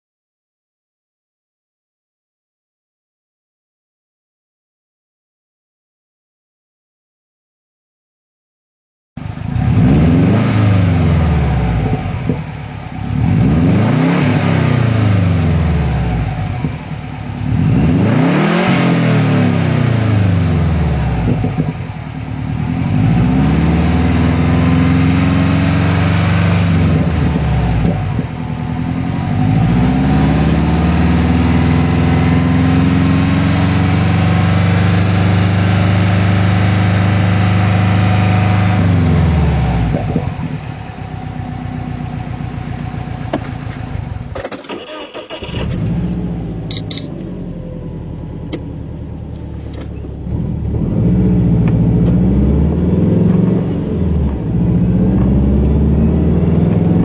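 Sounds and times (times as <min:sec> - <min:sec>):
car engine revving: 0:09.2 - 0:57.0.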